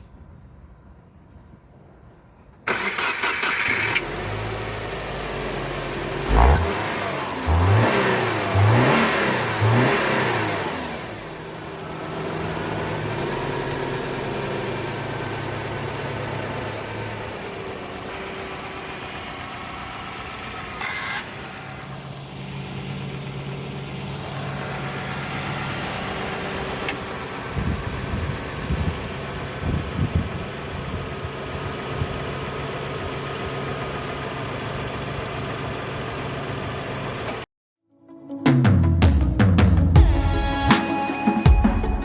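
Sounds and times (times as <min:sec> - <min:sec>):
car engine revving and idling: 0:02.7 - 0:37.5.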